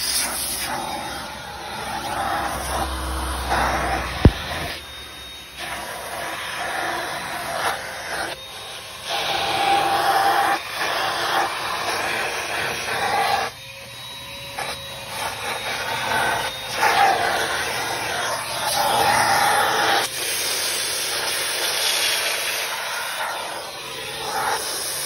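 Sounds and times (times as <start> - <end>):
shop vacuum suction: 0.0 - 25.0.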